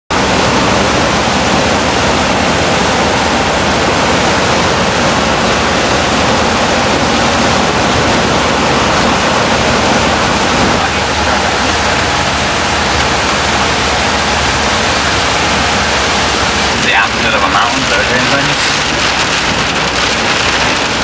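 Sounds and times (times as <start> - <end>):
loud steady rushing noise: 0.1 - 21.0.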